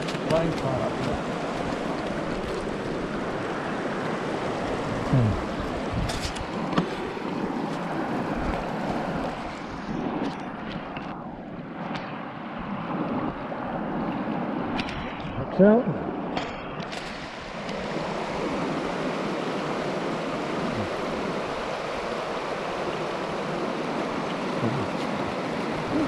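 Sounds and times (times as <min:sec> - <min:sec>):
rocky stream running: 0:00.0 - 0:12.3, 0:14.1 - 0:26.0.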